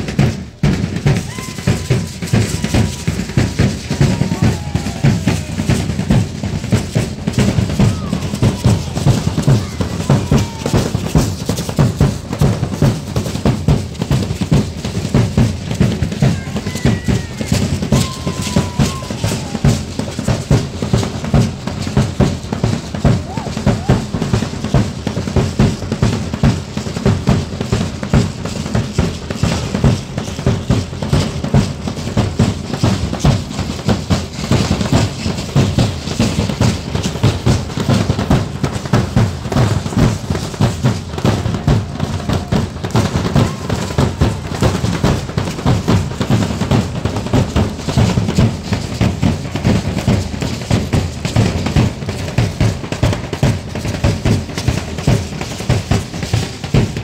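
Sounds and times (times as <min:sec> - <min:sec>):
bass drum and snare drums: 0:00.0 - 0:57.0.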